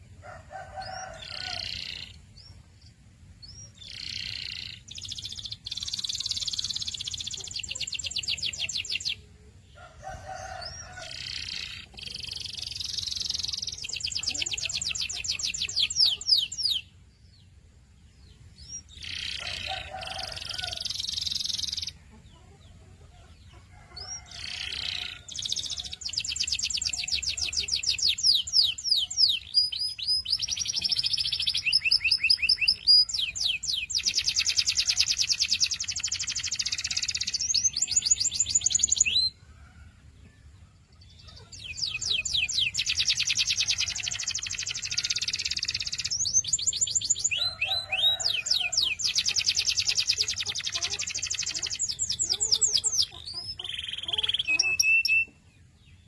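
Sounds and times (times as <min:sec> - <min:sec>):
canary singing trills: 0:00.0 - 0:39.6, 0:41.0 - 0:56.0.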